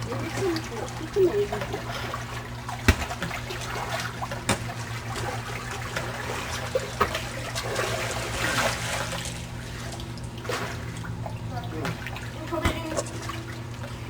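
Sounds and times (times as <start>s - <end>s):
pool water splashing and trickling: 0.0s - 14.0s
steady low hum: 0.0s - 14.0s.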